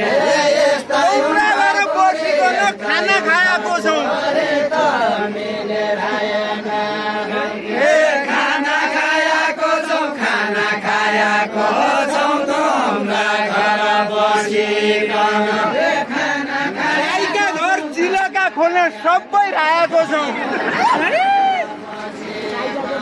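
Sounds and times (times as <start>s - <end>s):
voices singing folk song: 0.0s - 23.0s.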